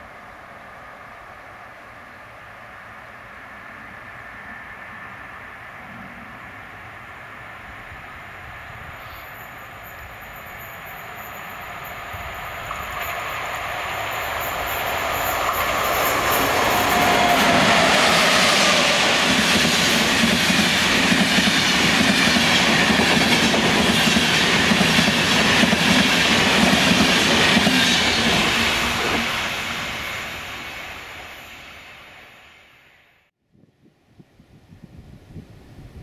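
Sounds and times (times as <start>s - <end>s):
passenger train passing: 0.0s - 33.3s.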